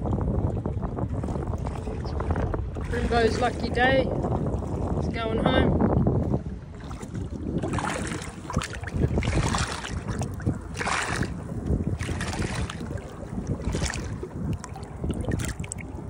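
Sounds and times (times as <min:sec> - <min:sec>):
water splashing: 0:01.2 - 0:05.6, 0:06.5 - 0:16.0.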